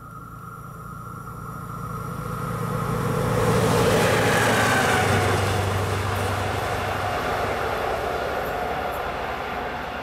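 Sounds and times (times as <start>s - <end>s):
locomotive engine drone: 0.0s - 10.0s
wheel and rail noise: 0.0s - 10.0s.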